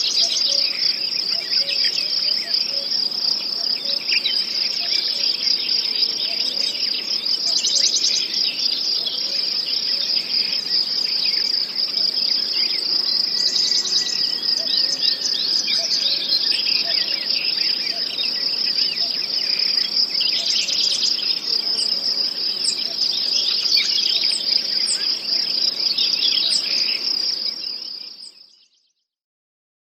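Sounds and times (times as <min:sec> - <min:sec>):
birds chirping: 0:00.0 - 0:28.8
insects chorus: 0:00.0 - 0:28.8.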